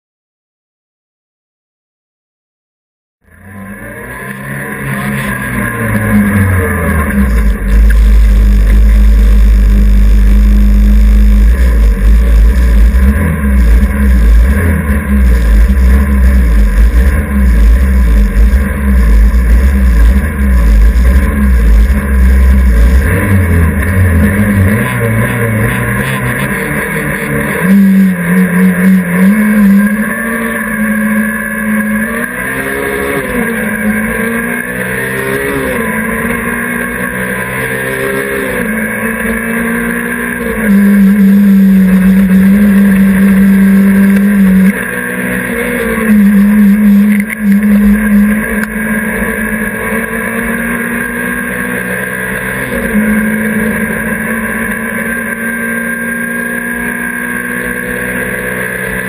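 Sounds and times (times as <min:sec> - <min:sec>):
race car engine revving: 0:03.2 - 0:59.0.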